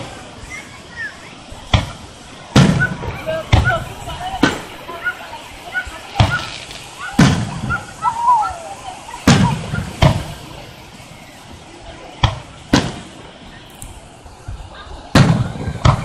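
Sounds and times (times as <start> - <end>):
crowd voices: 0.0 - 16.0
fireworks booming: 1.6 - 13.6, 14.4 - 16.0.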